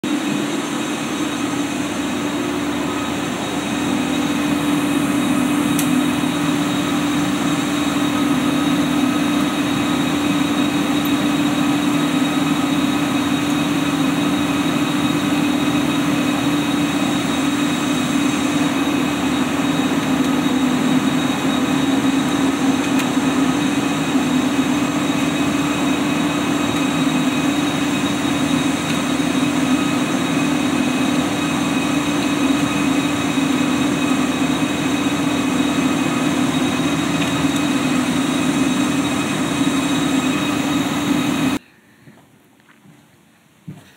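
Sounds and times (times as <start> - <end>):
high-pitched whines: 0.0 - 41.6
cooling fans humming: 0.0 - 43.9.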